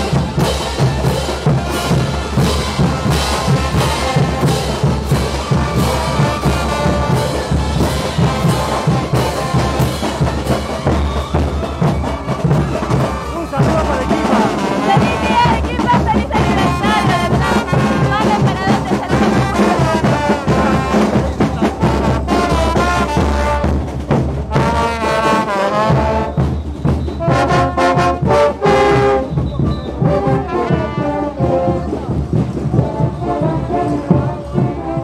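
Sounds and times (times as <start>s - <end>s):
bass drum beating: 0.0s - 35.0s
marching brass band playing: 0.0s - 35.0s.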